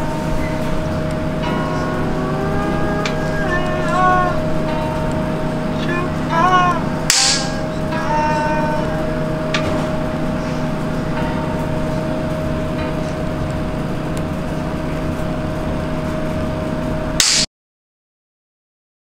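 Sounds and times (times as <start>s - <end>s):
laboratory equipment humming: 0.0s - 17.5s.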